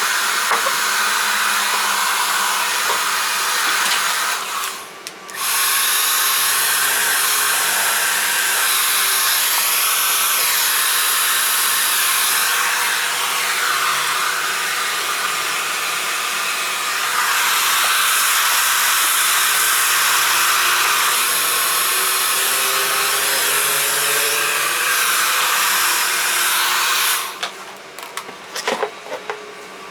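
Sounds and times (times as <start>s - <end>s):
hair dryer blowing: 0.0s - 29.9s.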